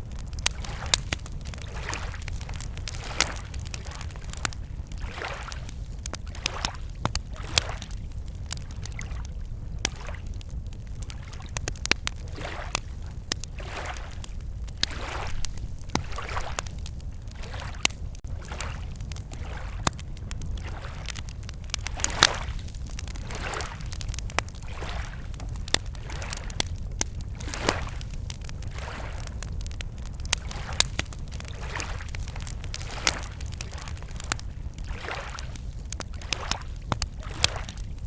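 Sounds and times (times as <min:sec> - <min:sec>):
campfire crackling and popping: 0:00.0 - 0:38.0
waves lapping against shore: 0:00.2 - 0:37.9.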